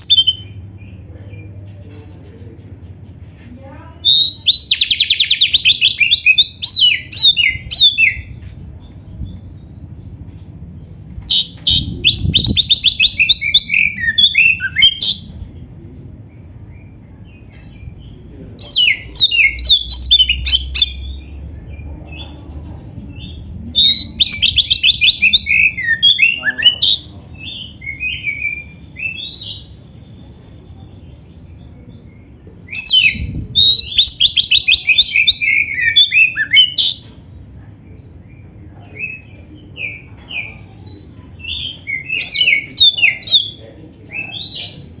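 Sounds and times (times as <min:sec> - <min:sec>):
bird singing trills and whistles: 0:00.0 - 0:01.5, 0:04.0 - 0:09.8, 0:11.3 - 0:15.4, 0:16.4 - 0:22.3, 0:23.2 - 0:37.1, 0:38.3 - 0:45.0.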